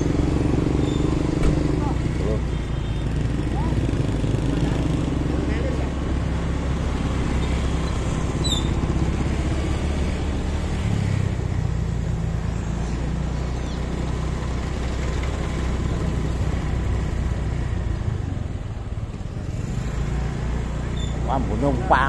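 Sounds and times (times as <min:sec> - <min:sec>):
traffic of motorbikes and cars: 0:00.0 - 0:22.0.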